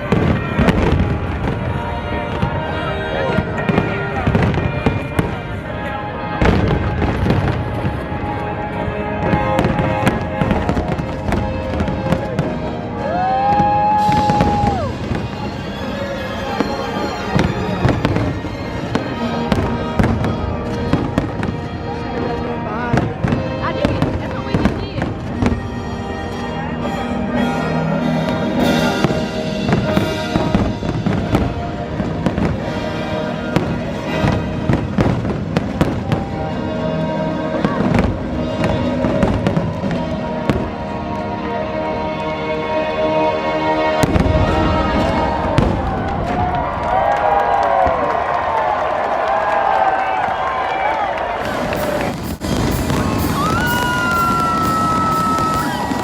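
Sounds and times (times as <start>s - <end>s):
fireworks crackling and banging: 0.0s - 42.3s, 43.9s - 56.0s
music playing: 0.0s - 46.3s, 51.4s - 56.0s.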